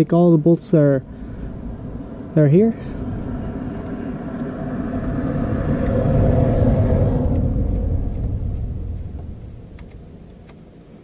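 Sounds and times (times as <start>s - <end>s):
motor vehicle passing: 0.6s - 10.8s.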